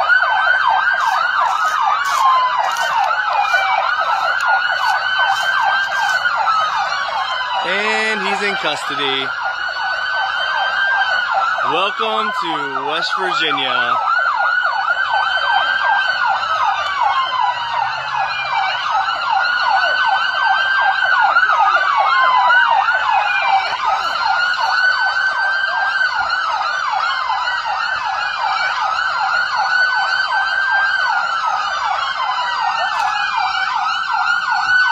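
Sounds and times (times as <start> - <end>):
police siren fast yelp: 0.0 - 34.9
police siren slow wail: 0.0 - 34.9.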